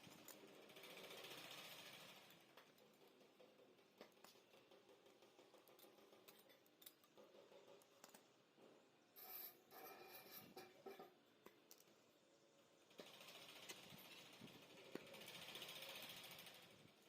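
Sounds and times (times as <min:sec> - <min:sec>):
faint clicks and scrapes: 0:00.0 - 0:12.2, 0:12.8 - 0:17.0.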